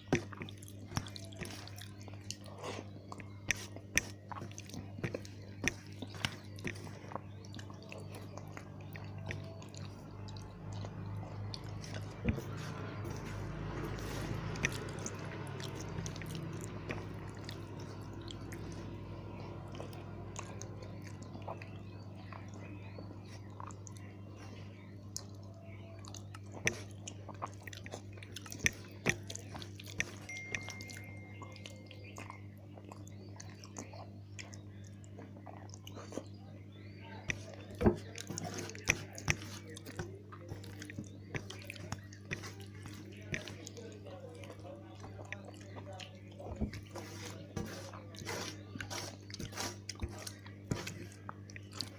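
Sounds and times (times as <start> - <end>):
person chewing food: 0.0 - 51.9
steady low hum: 0.0 - 51.9.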